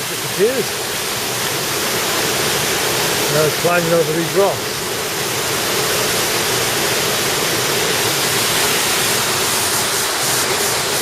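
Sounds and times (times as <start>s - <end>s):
rushing water cascade: 0.0s - 11.0s.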